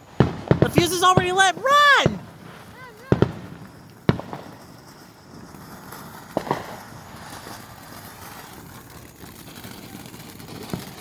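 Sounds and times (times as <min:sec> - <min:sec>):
firework pops: 0:00.0 - 0:05.0, 0:05.6 - 0:11.0
firework bang: 0:00.0 - 0:11.0.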